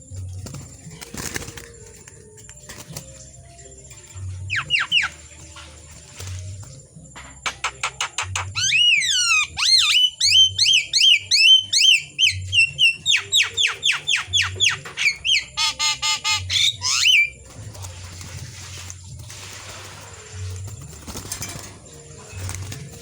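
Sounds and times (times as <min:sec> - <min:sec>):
starling singing: 0:00.0 - 0:23.0.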